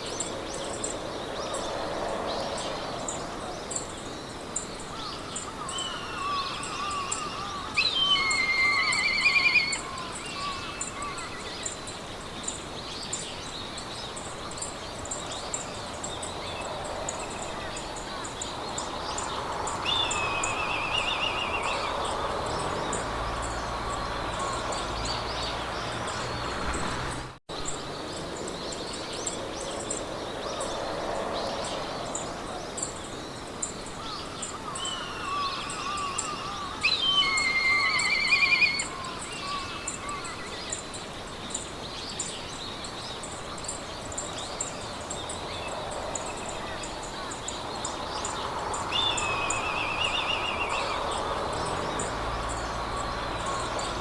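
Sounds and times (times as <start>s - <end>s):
songbirds trilling and warbling: 0.0s - 54.0s
wind through grass: 0.0s - 54.0s.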